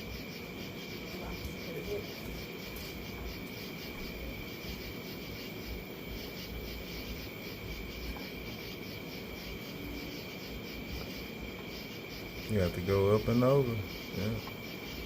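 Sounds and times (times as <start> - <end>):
continuous high buzz: 0.0 - 15.0
night insects chirping: 0.0 - 15.0.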